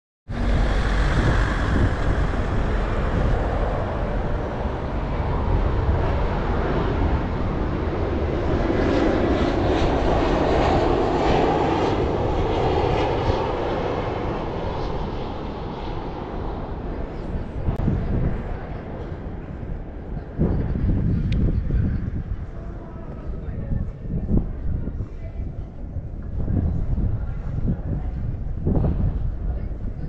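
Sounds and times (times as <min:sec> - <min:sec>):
jet airliner flying overhead: 0:00.3 - 0:30.0.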